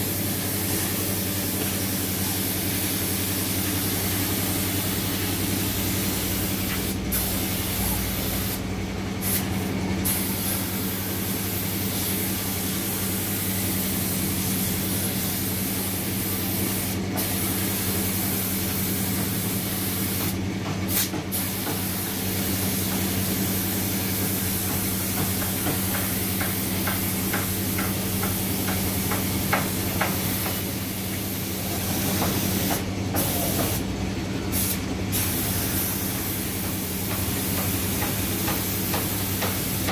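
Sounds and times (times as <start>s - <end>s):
spray gun hissing: 0.0s - 8.6s, 9.2s - 33.8s, 34.6s - 39.9s.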